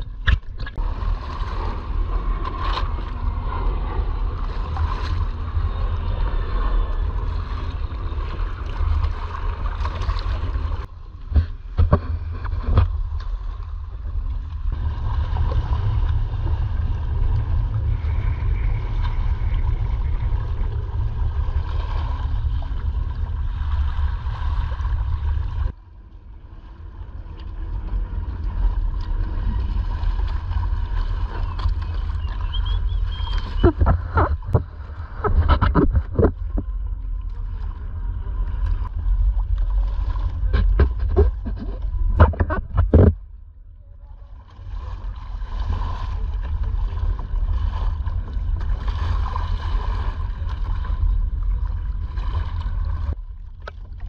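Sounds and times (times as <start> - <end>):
water splashing against kayak: 0.0 - 54.0.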